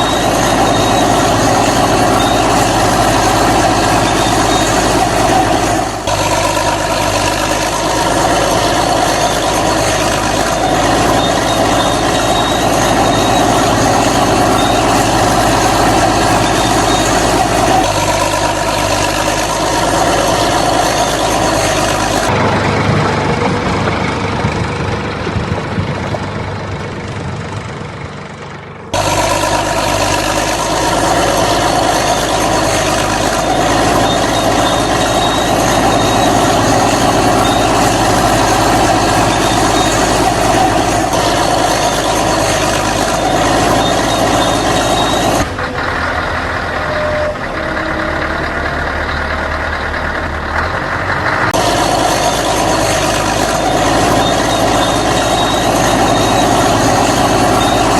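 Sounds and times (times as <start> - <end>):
heavy vehicle engine running: 0.0 - 57.9.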